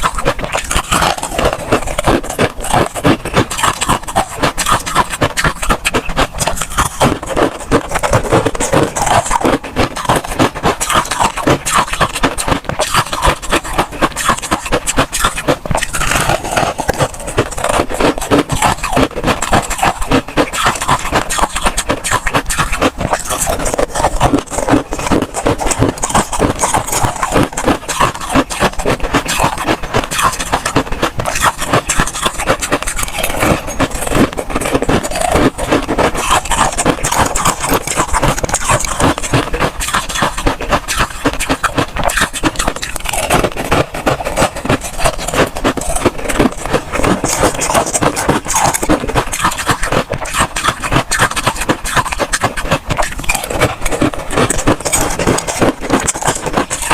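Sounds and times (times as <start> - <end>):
frost crunching: 0.0 - 56.9.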